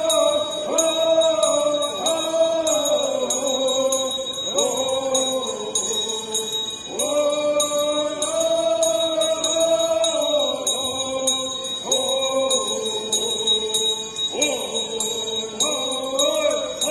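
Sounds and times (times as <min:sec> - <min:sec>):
men singing in unison: 0:00.0 - 0:16.9
steady jingling beat: 0:00.0 - 0:16.9.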